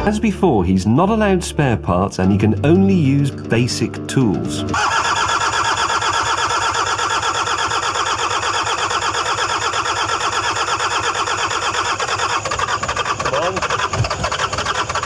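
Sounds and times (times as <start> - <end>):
diesel engine cranking: 2.2 - 15.0.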